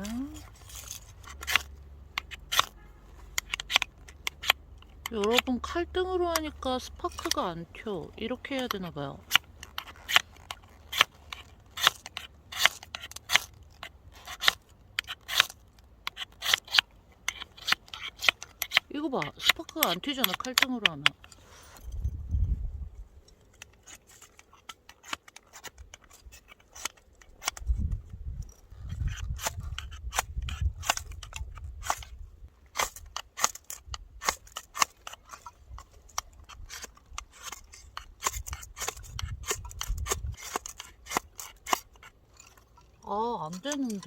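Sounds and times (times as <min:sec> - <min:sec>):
knife scraping ferro rod: 0:00.0 - 0:02.8, 0:03.4 - 0:07.6, 0:08.2 - 0:21.8, 0:23.4 - 0:44.0.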